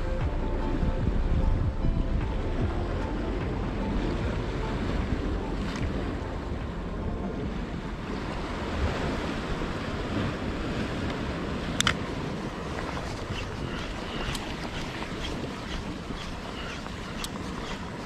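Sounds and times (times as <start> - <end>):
wind rumbling on microphone: 0.0 - 18.0
sea waves washing ashore: 2.1 - 18.0.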